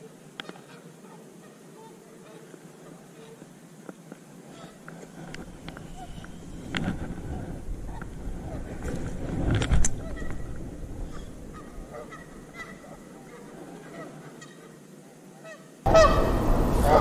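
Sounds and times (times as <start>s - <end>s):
geese honking: 0.0s - 3.5s, 4.4s - 8.7s, 10.0s - 17.0s.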